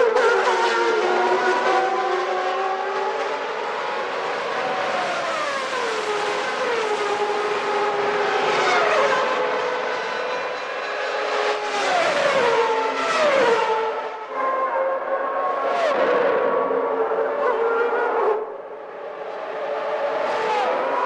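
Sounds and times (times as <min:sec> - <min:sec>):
racing cars passing at high revs: 0:00.0 - 0:21.0.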